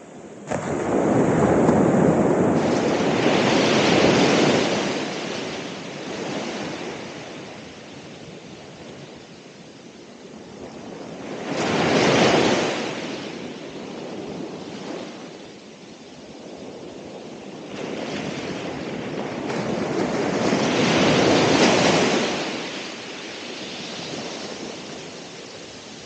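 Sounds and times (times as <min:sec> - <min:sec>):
ocean waves crashing: 0:00.0 - 0:15.8, 0:17.0 - 0:26.0
surf washing back: 0:00.0 - 0:26.0.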